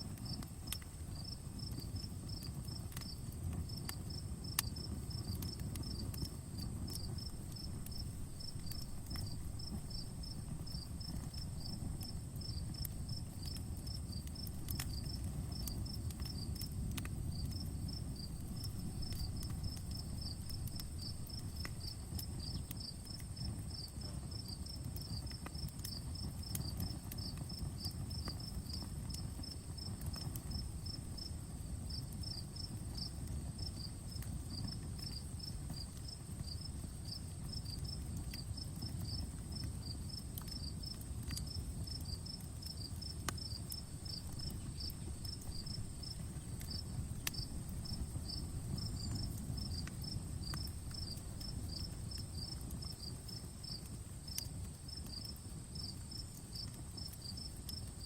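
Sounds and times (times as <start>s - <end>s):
campfire crackling: 0.0s - 58.0s
cricket chirping: 0.1s - 58.0s.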